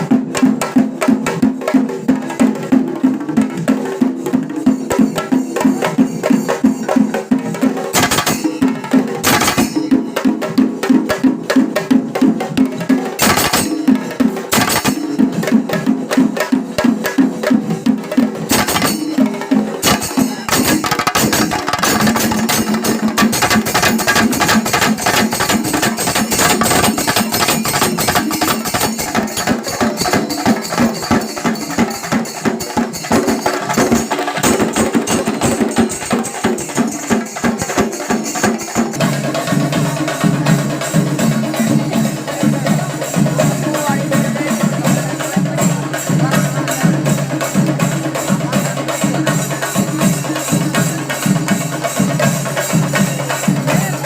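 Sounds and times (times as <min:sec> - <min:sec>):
percussion ensemble drumming: 0:00.0 - 0:54.0.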